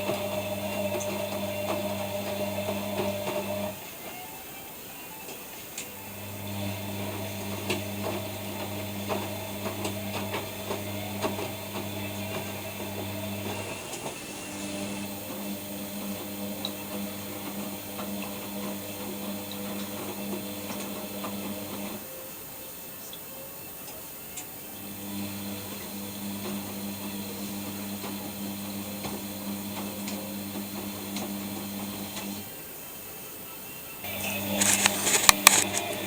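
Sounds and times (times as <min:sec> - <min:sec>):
washing machine motor hum: 0:00.0 - 0:23.0, 0:23.7 - 0:32.8, 0:34.0 - 0:36.0.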